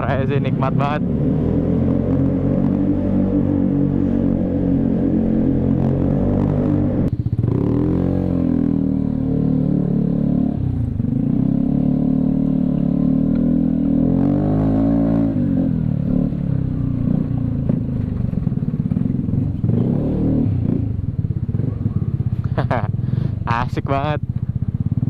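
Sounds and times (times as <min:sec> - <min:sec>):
scooter engine revving: 0:00.0 - 0:25.0.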